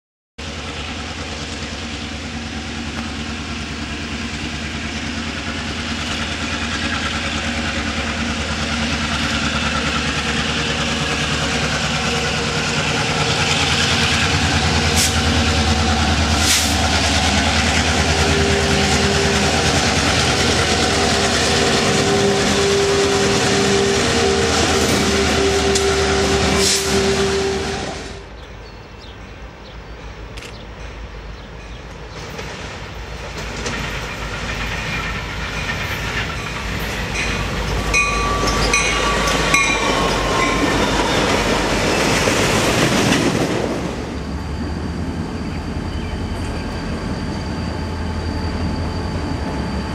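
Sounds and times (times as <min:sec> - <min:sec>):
diesel locomotive engine running: 0:00.4 - 0:49.9
train wheels rumbling on rails: 0:00.4 - 0:49.9.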